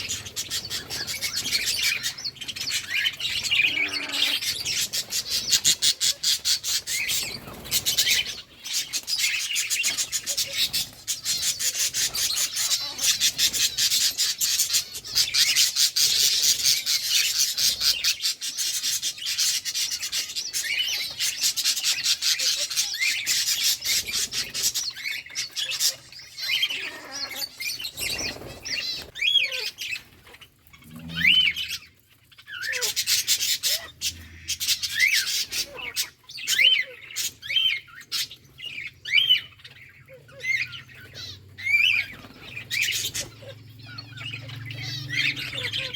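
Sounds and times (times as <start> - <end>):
budgerigars chattering and chirping: 0.0 - 45.9.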